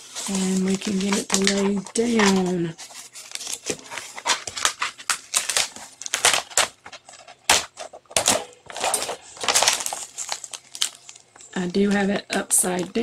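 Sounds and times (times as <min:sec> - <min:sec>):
canvas sheet crinkling: 0:00.0 - 0:13.0.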